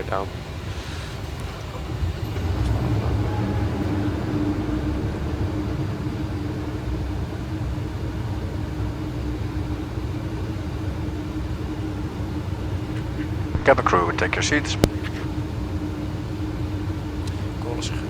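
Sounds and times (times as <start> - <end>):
landing gear rumble in airflow: 0.0 - 18.0
steady hum: 0.0 - 18.0.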